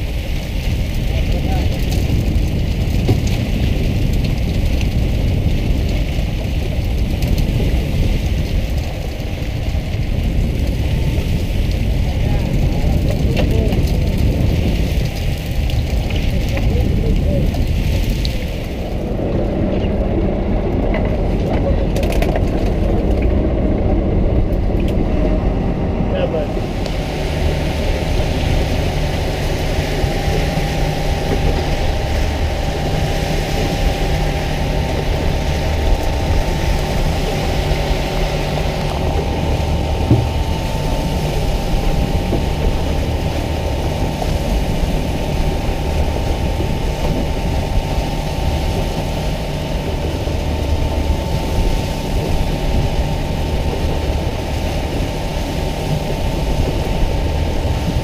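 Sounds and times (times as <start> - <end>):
boat engine humming: 0.0 - 58.0
faint engine whine: 0.0 - 58.0.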